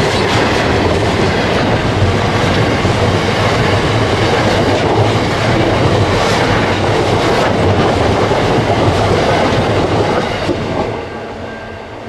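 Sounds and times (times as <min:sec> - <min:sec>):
train wagons rolling on rails: 0:00.0 - 0:12.0.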